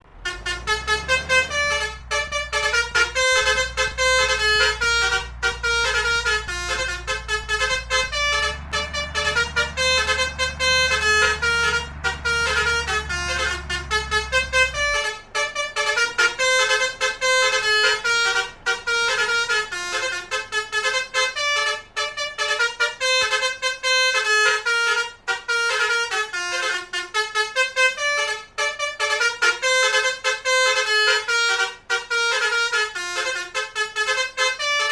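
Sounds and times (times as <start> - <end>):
multi-tone bus horn playing a tune: 0.0 - 34.9.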